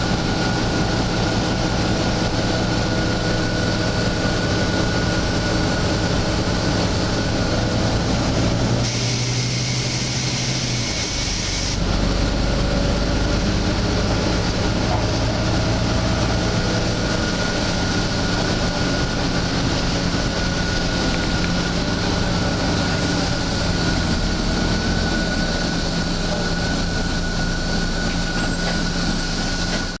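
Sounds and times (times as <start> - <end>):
bus engine and road noise: 0.0 - 30.0
high whine: 0.0 - 30.0.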